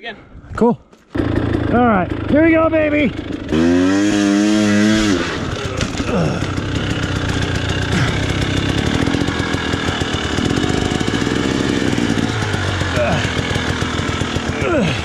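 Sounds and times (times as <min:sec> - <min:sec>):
dirt bike engine revving: 0:01.1 - 0:15.0.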